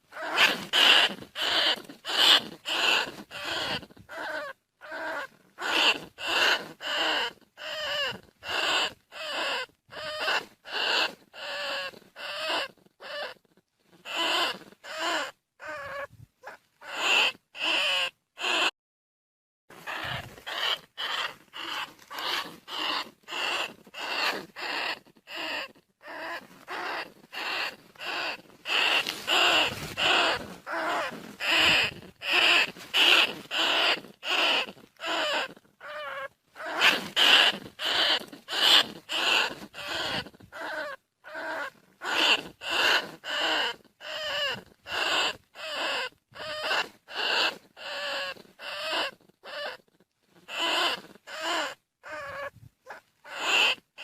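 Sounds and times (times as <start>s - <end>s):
rat squeaks: 0.1s - 18.7s, 19.8s - 54.0s.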